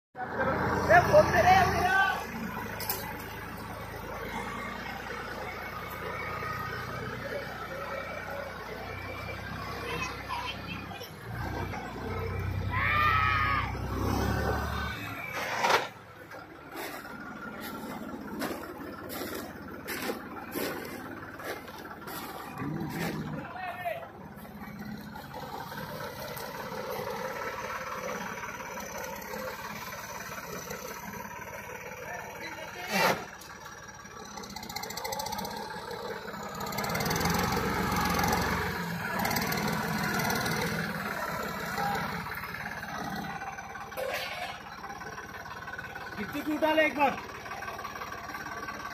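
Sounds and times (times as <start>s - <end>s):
tractor diesel engine running: 0.2s - 48.9s.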